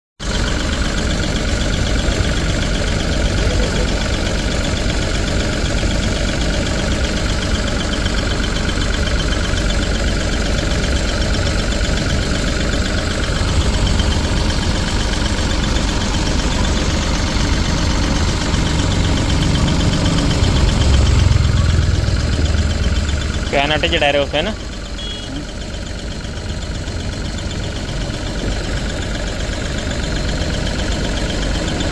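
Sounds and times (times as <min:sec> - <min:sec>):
diesel engine idling: 0:00.2 - 0:31.9.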